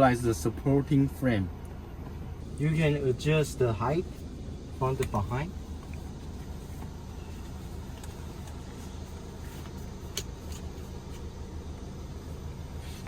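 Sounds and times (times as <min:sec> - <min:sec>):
low hum: 0:01.4 - 0:13.0.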